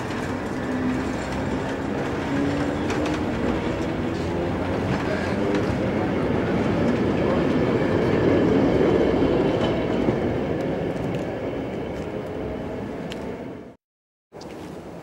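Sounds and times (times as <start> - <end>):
tram wheel rumble: 0.0 - 13.8.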